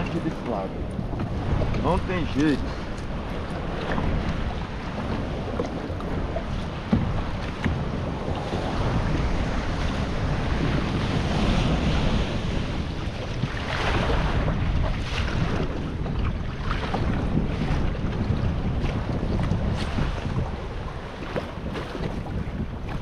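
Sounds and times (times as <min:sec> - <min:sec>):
waves washing and surging: 0:00.0 - 0:23.0
wind buffeting microphone: 0:00.0 - 0:23.0.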